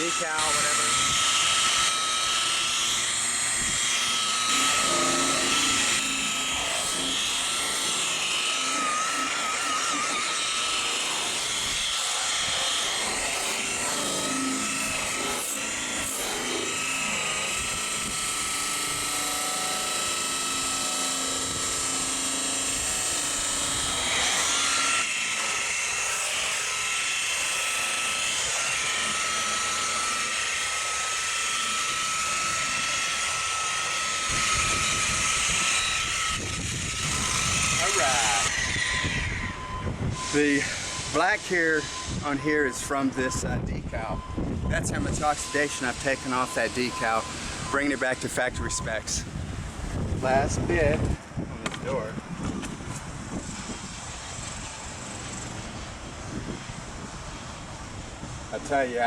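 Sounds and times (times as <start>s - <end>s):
motor whir with high tone: 0.0s - 59.0s.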